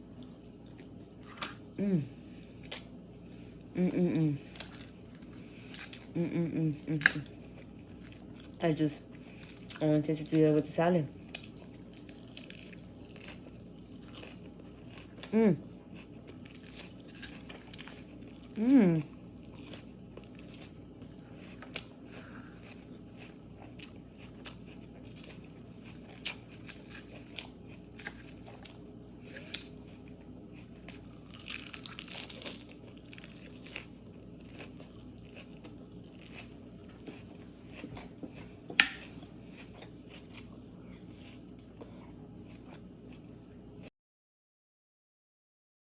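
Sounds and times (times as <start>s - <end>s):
chewing and crunching: 4.4s - 43.9s.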